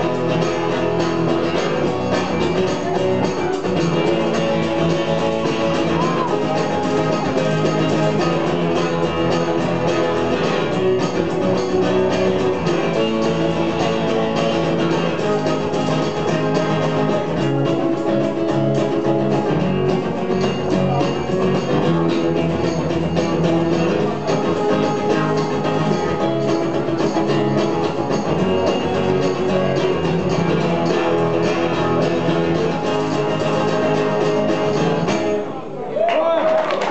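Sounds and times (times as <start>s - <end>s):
hand-shaken percussion: 0.0s - 35.6s
acoustic guitar strumming: 0.0s - 35.8s.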